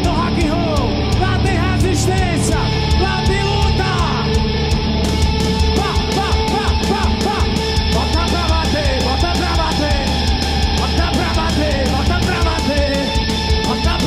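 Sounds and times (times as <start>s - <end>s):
heavy rock band playing live: 0.0s - 14.0s
sliding guitar notes: 0.0s - 14.0s.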